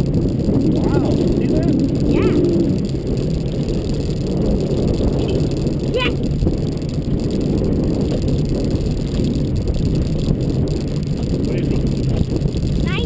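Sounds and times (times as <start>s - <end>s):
boat motor running: 0.0s - 13.0s
water noise: 0.0s - 13.0s
wind: 0.0s - 13.0s.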